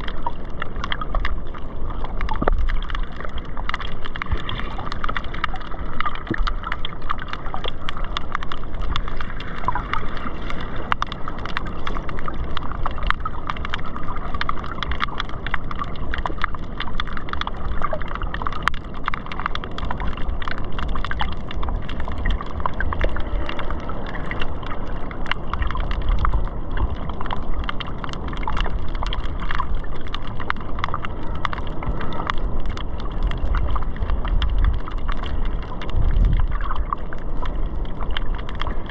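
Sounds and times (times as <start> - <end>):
reef crackling and clicking: 0.0 - 38.9
underwater surge: 0.0 - 38.9.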